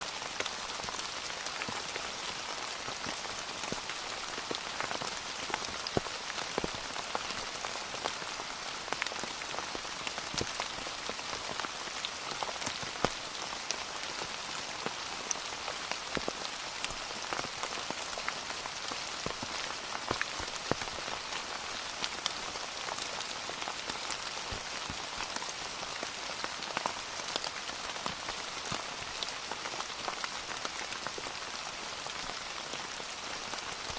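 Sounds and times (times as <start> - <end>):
raindrops striking a surface: 0.0 - 33.9
steady rain falling: 0.0 - 33.9.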